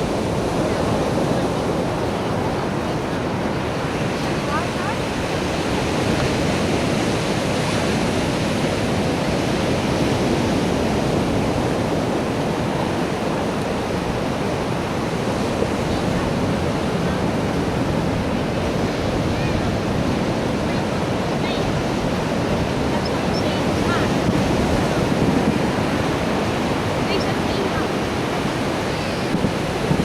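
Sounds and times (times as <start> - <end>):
surf on a beach: 0.0 - 30.0.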